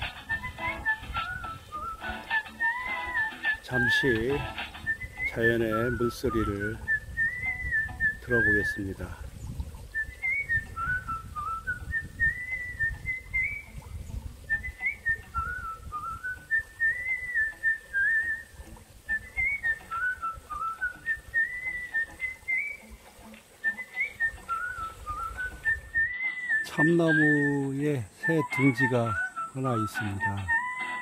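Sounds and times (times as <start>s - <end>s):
person whistling a melody: 0.0s - 9.0s, 10.0s - 13.8s, 14.5s - 22.9s, 23.6s - 31.0s.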